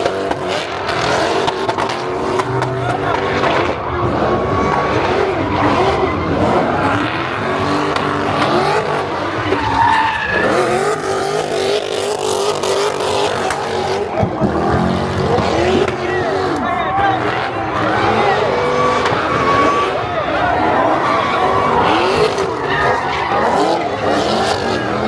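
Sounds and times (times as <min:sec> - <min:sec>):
car engine revving: 0:00.0 - 0:25.0
tyres squealing: 0:00.0 - 0:25.0.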